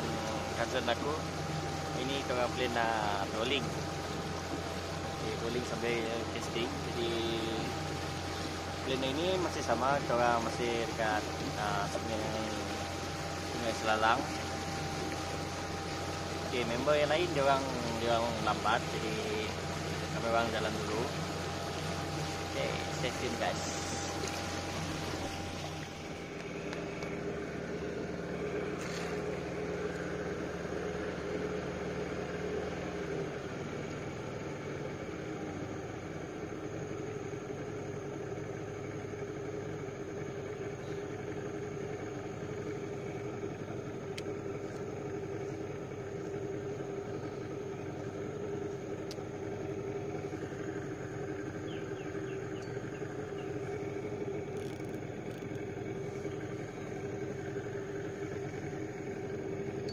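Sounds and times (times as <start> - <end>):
boat motor running: 0.0 - 59.9.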